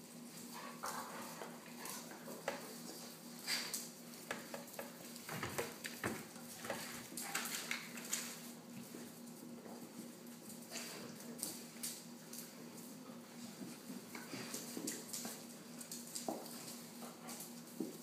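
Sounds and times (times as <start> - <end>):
puppies' claws scrabbling on concrete: 0.0 - 18.0.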